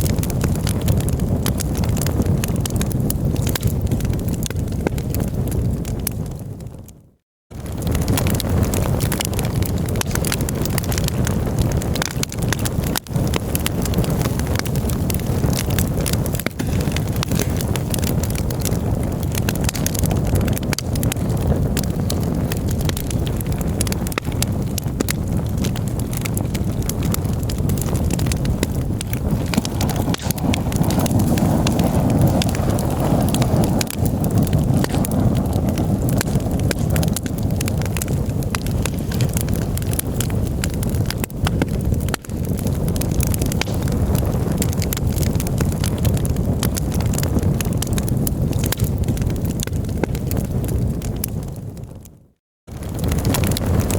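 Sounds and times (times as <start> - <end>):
campfire crackling: 0.0 - 52.1, 52.7 - 53.9.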